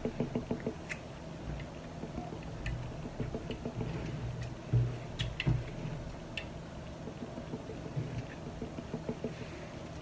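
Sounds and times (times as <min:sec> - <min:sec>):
close chewing with lip clicks: 0:00.0 - 0:10.0.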